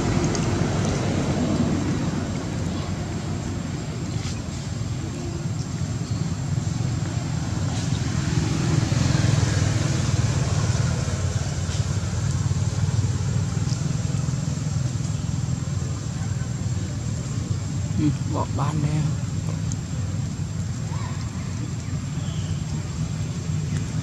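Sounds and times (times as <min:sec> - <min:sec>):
rumble of motor traffic: 0:00.0 - 0:24.0.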